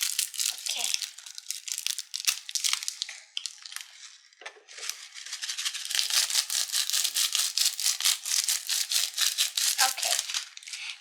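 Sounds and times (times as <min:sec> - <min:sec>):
plastic beads rattling: 0:00.0 - 0:04.2, 0:04.8 - 0:10.8.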